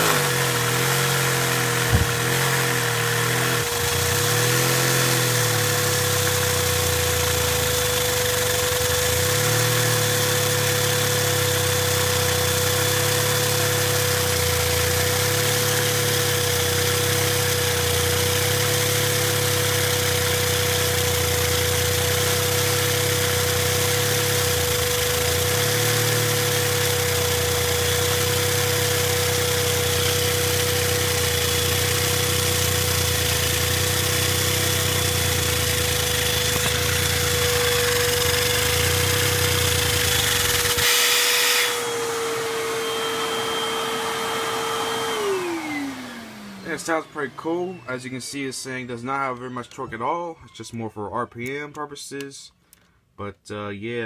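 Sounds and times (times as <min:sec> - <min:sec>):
small engine running fast: 0:00.0 - 0:48.4
vacuum cleaner whine: 0:00.0 - 0:50.0.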